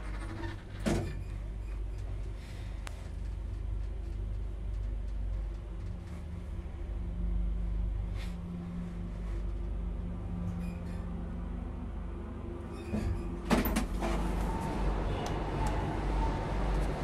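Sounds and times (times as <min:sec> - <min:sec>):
elevator car humming: 0:00.0 - 0:17.0
low elevator drive tone: 0:00.0 - 0:17.0.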